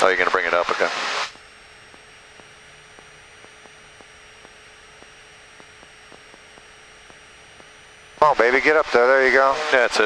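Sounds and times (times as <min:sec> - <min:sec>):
aircraft engine run-up: 0:00.0 - 0:10.0
intercom electrical hum and whine: 0:00.0 - 0:10.0.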